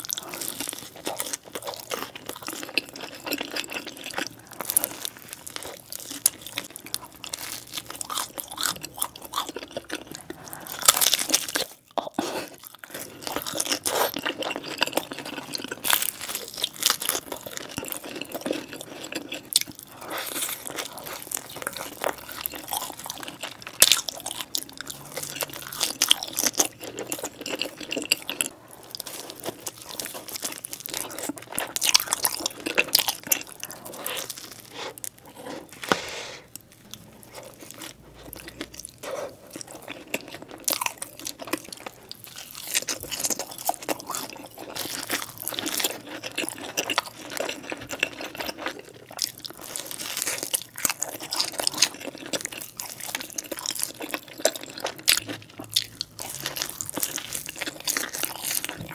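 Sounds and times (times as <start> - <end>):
pizza crust crunching while chewing: 0.0 - 58.9.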